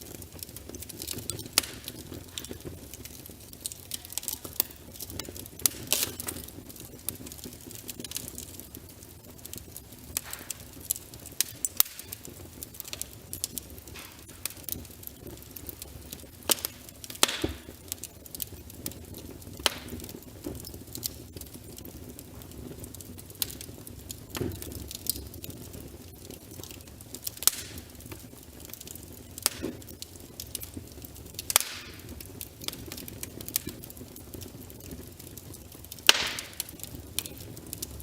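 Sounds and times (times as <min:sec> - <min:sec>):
fire hissing: 0:00.0 - 0:38.0
logs crackling and popping: 0:00.0 - 0:38.0.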